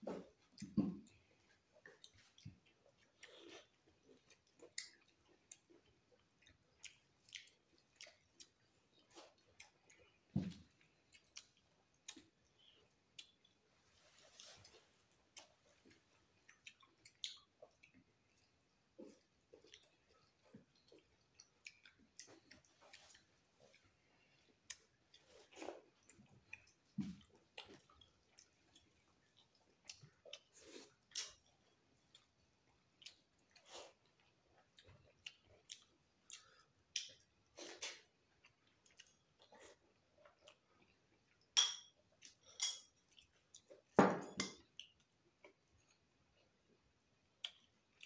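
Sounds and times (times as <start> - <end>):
chewing and smacking: 0.1 - 48.0.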